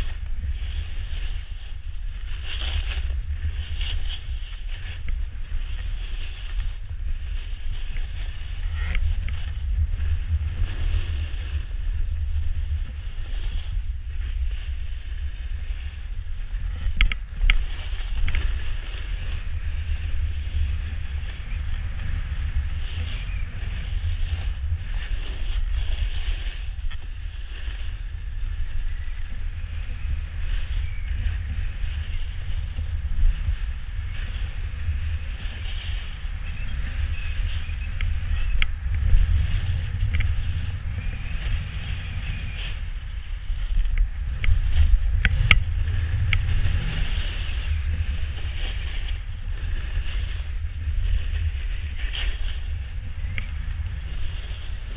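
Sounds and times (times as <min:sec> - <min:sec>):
snowboard scraping over snow: 0:00.0 - 0:54.9
wind rumble on microphone: 0:00.0 - 0:54.9.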